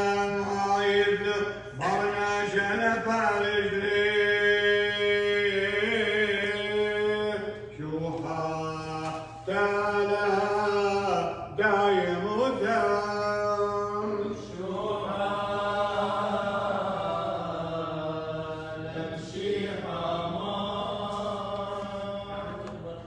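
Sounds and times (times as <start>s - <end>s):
person chanting: 0.0s - 23.0s.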